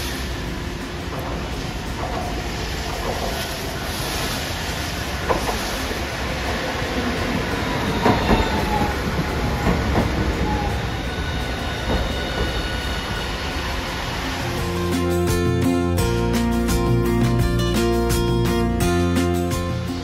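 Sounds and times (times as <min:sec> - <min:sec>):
tram running noise: 0:00.0 - 0:20.0.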